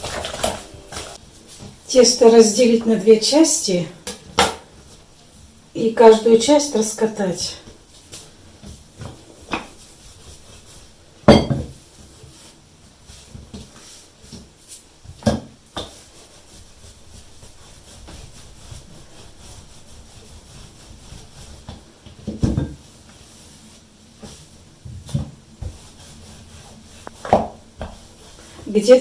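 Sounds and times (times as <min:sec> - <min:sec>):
faint rubbing of dough: 0:00.0 - 0:29.0.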